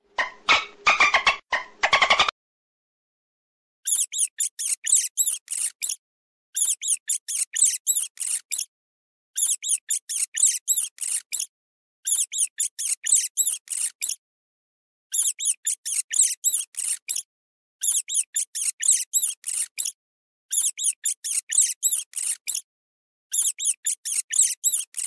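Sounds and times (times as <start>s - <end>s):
rabbit squeaking: 0.0s - 2.3s, 3.8s - 6.0s, 6.6s - 8.7s, 9.4s - 14.2s, 15.1s - 22.7s, 23.3s - 25.0s.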